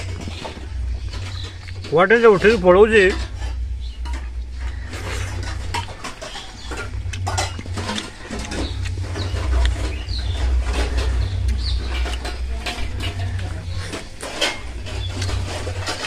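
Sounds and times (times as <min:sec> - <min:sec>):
man chewing: 0:00.0 - 0:01.9, 0:03.5 - 0:16.0
steady low rumble: 0:00.0 - 0:16.0.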